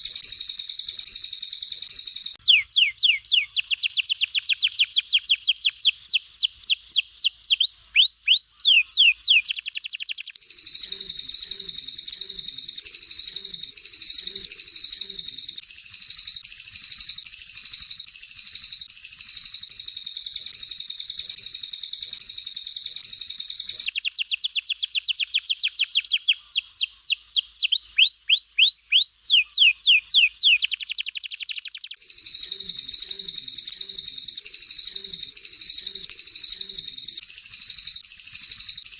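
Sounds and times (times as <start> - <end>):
harsh rattling bird song: 0.0 - 38.9.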